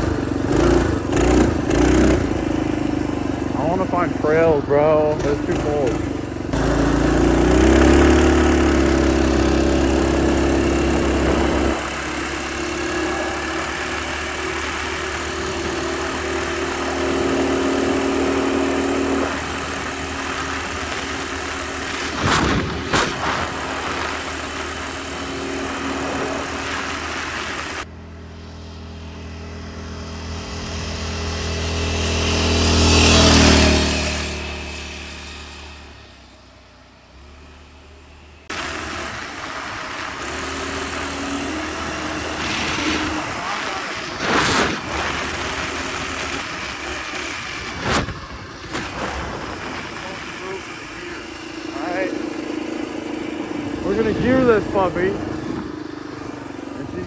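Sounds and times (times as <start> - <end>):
mini bike engine running: 0.0 - 57.0.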